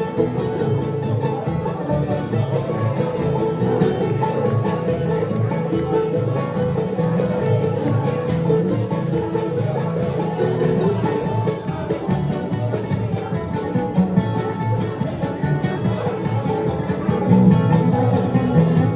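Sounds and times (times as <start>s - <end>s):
bluegrass band playing: 0.0s - 18.9s.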